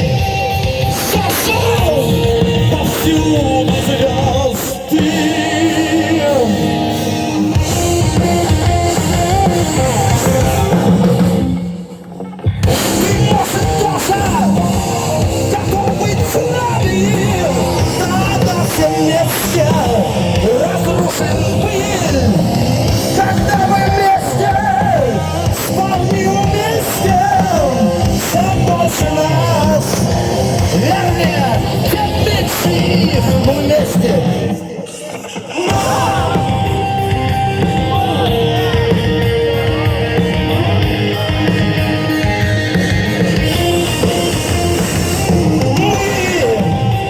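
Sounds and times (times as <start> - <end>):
live rock band playing: 0.0 - 47.0
sliding lead guitar line: 0.0 - 47.0.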